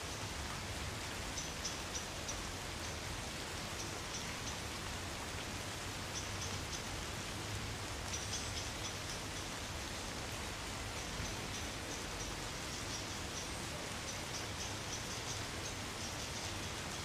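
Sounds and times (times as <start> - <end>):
rain falling on trees: 0.0 - 17.0.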